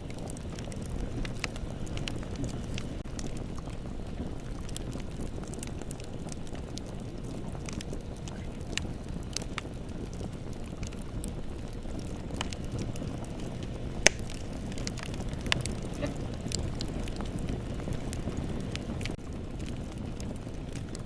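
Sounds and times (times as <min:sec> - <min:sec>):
bonfire flames rumbling: 0:00.0 - 0:21.0
fire crackles and pops: 0:00.0 - 0:21.0.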